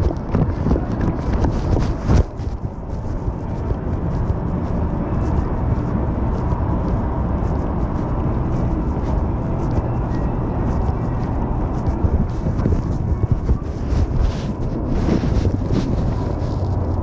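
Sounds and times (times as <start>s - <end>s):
faint steady whine: 0.0s - 17.0s
light rattles and clicks: 0.0s - 17.0s
monorail train low rumble: 0.0s - 17.0s.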